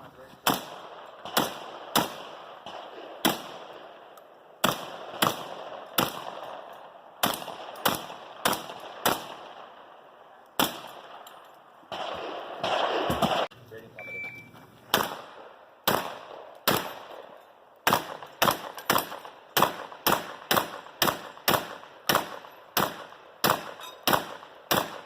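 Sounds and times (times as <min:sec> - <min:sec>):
shotgun shots: 0:00.4 - 0:13.5, 0:14.9 - 0:25.0.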